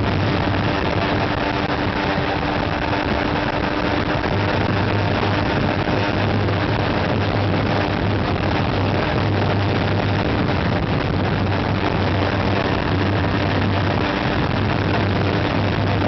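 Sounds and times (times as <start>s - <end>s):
motorcycle engine cruising: 0.0s - 16.0s
wind rush on microphone: 0.0s - 16.0s.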